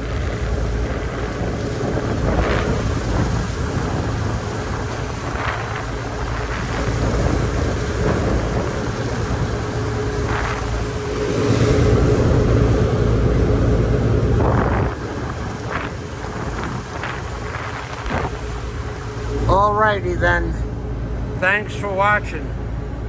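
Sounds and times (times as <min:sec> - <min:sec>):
rough sea noise: 0:00.0 - 0:23.0
ship engines droning: 0:00.0 - 0:23.0
wind buffeting microphone: 0:00.0 - 0:23.0.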